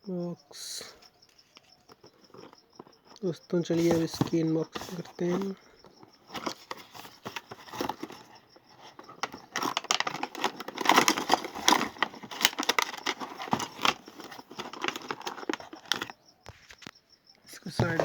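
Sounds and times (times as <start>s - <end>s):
packaging rustling and tearing: 1.4s - 16.8s.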